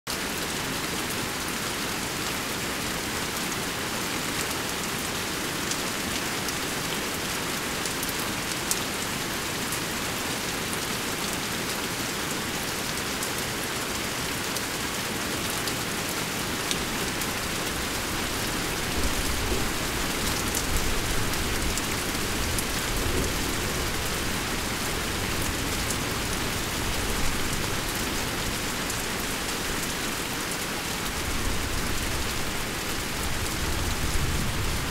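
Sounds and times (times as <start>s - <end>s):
rain pattering: 0.1s - 34.9s.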